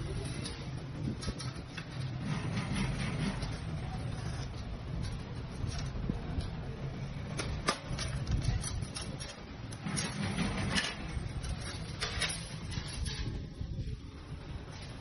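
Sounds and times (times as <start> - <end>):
metal lathe rumbling: 0.0 - 15.0.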